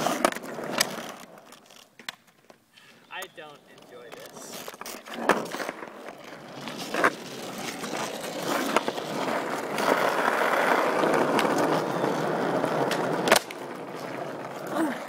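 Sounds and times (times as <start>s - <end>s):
skateboard wheels rolling on asphalt: 0.0s - 15.0s.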